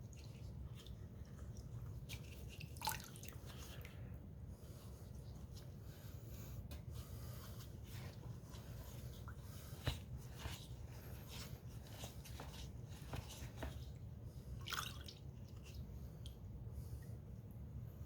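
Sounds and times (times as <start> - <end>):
wet rustle: 0.0 - 16.4
low steady hum: 0.0 - 18.0.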